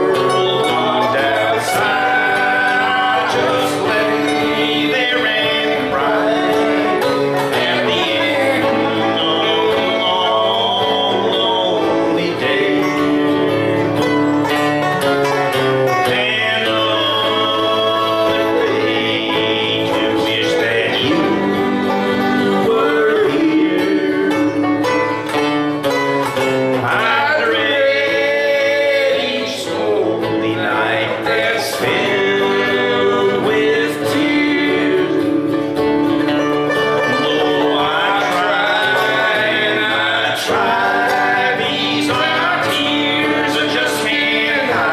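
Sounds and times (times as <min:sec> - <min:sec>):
acoustic guitar strumming: 0:00.0 - 0:44.9
banjo picking: 0:00.0 - 0:44.9.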